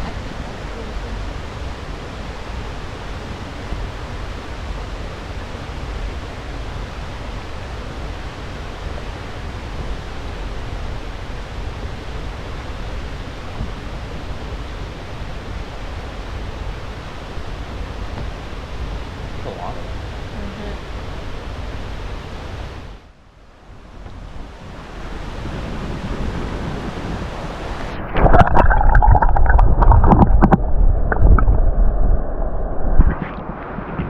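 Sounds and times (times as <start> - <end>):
waterfall and creek rushing: 0.0 - 23.1, 23.7 - 30.5.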